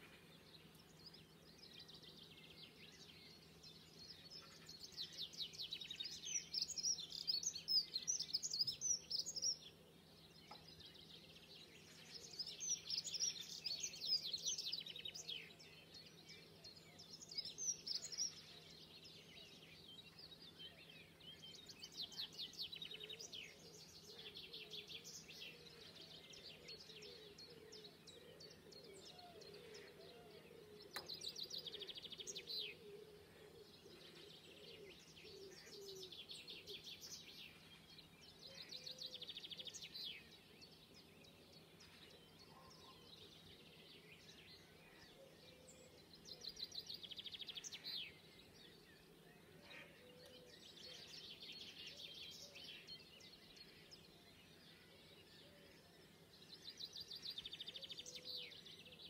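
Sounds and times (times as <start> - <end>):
songbirds singing trills: 0.0 - 59.0.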